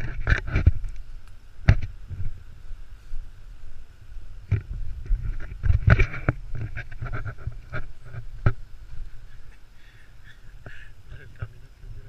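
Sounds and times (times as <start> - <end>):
low rumble of movement: 0.0 - 12.0.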